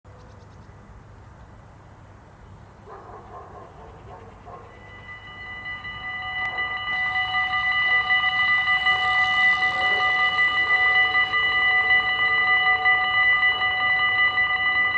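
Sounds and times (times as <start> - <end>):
level crossing warning bells: 2.9 - 14.9.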